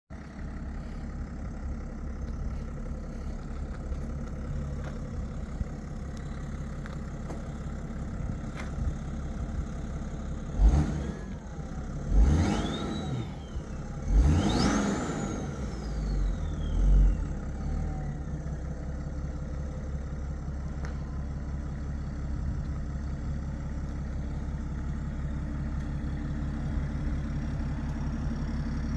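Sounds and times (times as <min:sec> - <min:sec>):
diesel engine idling and revving: 0:00.1 - 0:28.9.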